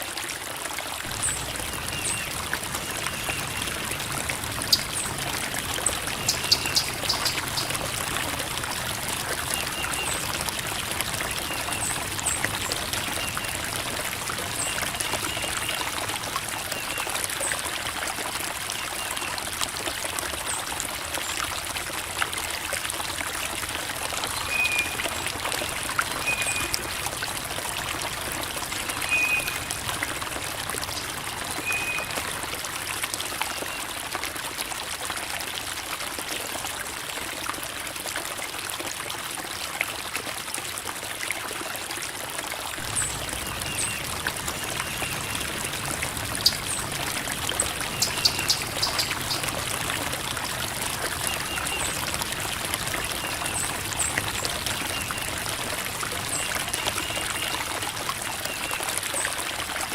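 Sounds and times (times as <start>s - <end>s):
creek water babbling over rocks: 0.0s - 59.9s.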